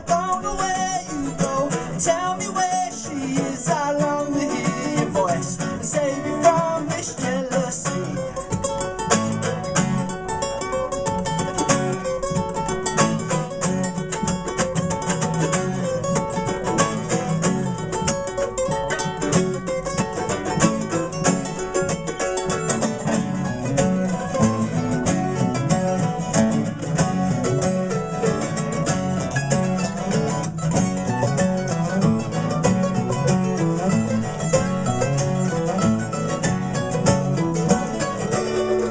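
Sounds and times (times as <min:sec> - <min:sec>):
mandolin: 0:00.0 - 0:38.9
nylon-string guitar: 0:00.0 - 0:38.9
steel-string acoustic guitar: 0:00.0 - 0:38.9.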